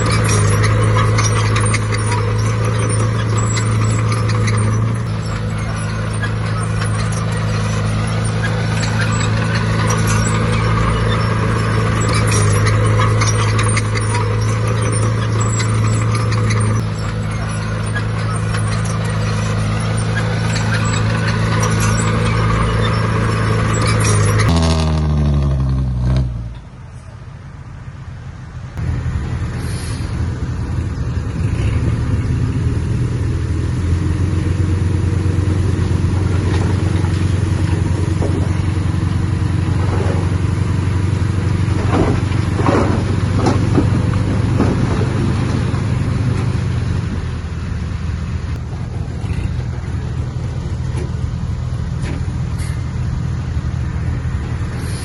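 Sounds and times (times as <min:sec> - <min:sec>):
metallic clanks and squeaks: 0:00.0 - 0:27.2, 0:31.2 - 0:55.0
heavy diesel machine droning: 0:00.0 - 0:55.0.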